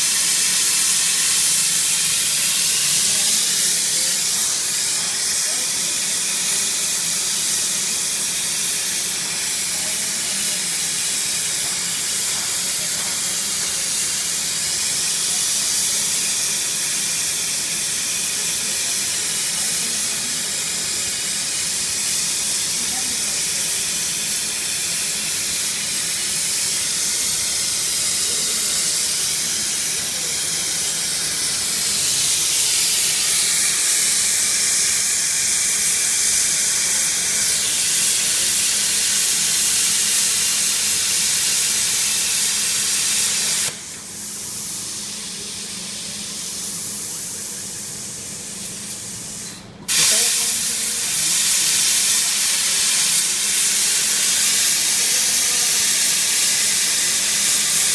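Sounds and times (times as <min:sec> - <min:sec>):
plasma torch hissing: 0:00.0 - 0:57.9.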